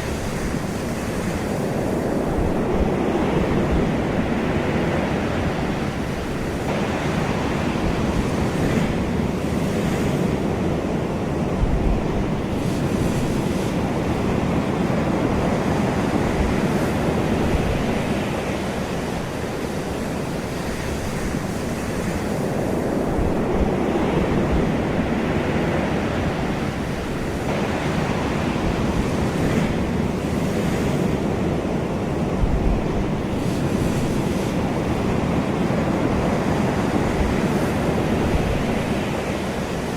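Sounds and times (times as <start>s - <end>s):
ocean waves on shore: 0.0s - 39.9s
wind rumble on microphone: 0.0s - 39.9s.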